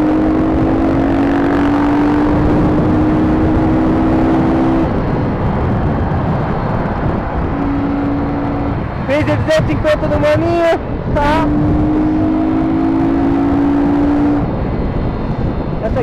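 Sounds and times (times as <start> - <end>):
motorcycle engines droning: 0.0 - 16.0
wind rushing over microphone: 0.0 - 16.0.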